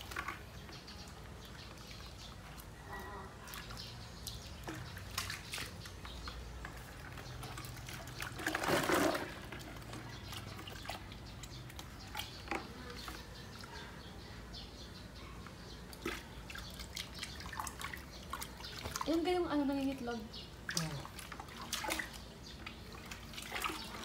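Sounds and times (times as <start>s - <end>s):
water sloshing in bucket: 0.0s - 13.9s, 15.8s - 24.0s.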